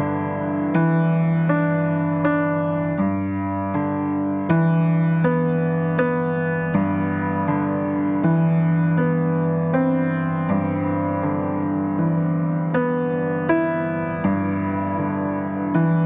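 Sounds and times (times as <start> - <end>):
piano-like keyboard chords: 0.0 - 16.0.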